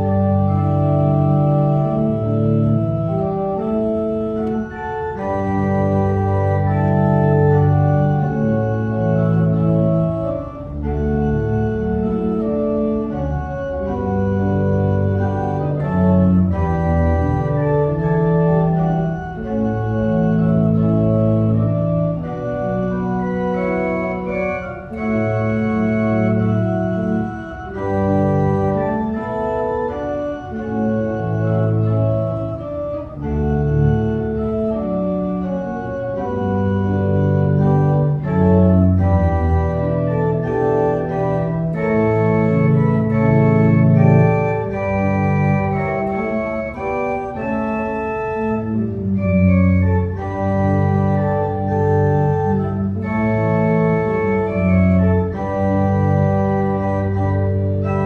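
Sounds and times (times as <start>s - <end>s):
church organ playing chords: 0.0s - 58.0s.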